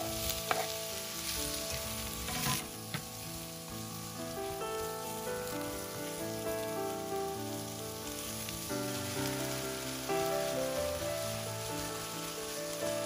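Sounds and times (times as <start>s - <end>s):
background music: 0.0s - 13.0s
vegetables sizzling in oil: 0.0s - 13.0s.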